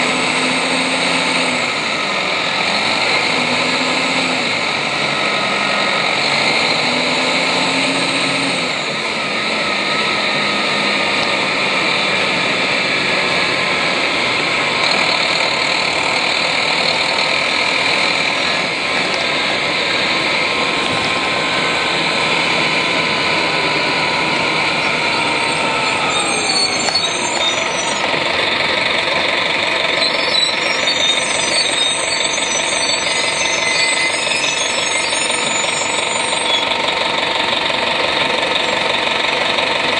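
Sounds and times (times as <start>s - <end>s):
transmission whine gliding down: 0.0s - 28.7s, 29.8s - 37.0s
bus diesel engine running: 0.0s - 39.9s.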